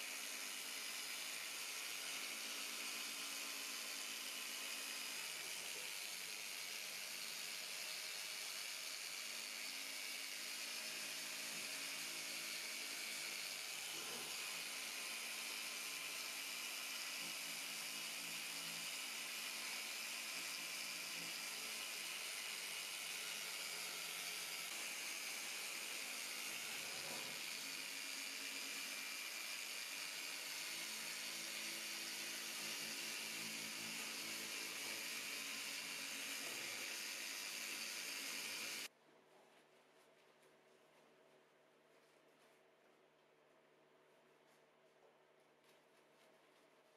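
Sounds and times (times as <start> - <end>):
electric polisher motor whir: 0.0 - 38.9.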